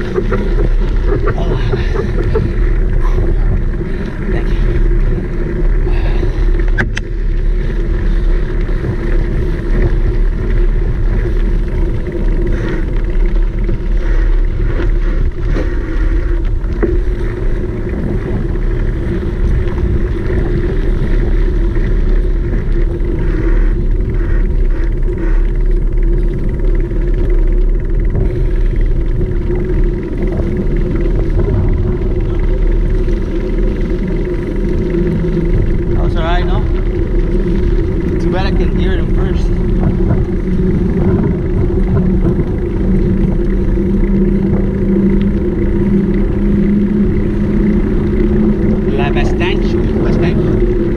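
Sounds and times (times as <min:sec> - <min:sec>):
bicycle tyre and drivetrain noise: 0:00.0 - 0:50.9
wind buffeting microphone: 0:00.0 - 0:50.9.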